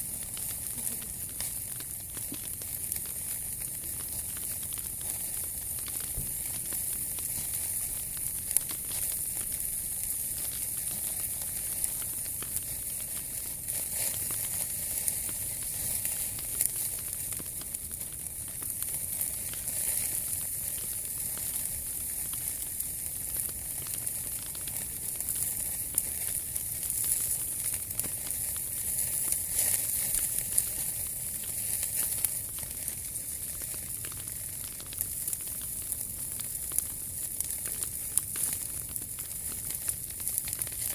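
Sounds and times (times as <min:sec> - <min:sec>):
fire hiss: 0:00.0 - 0:40.9
wood fire crackling and popping: 0:00.0 - 0:40.9.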